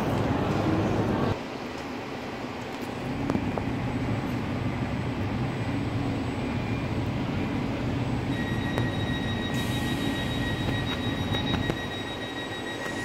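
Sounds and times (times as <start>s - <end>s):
high whine: 0.0s - 13.0s
train low rumble and hum: 0.0s - 13.0s.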